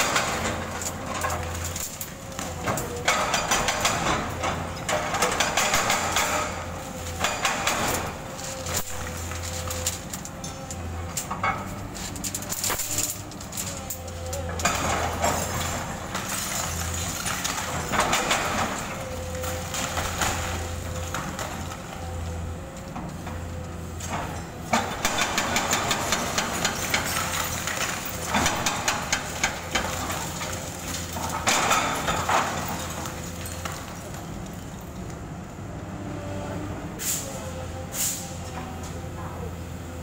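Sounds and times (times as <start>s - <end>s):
concrete cracking and debris falling: 0.0s - 22.2s, 24.7s - 34.8s
diesel excavator engine running: 0.0s - 40.0s.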